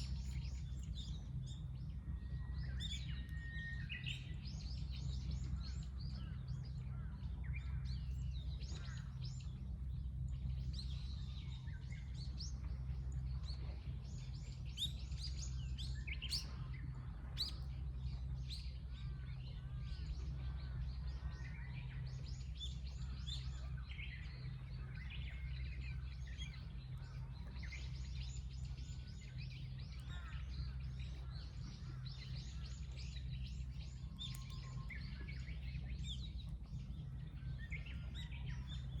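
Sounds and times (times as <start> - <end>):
birds chirping and singing: 0.0 - 39.0
low rumble: 0.0 - 39.0.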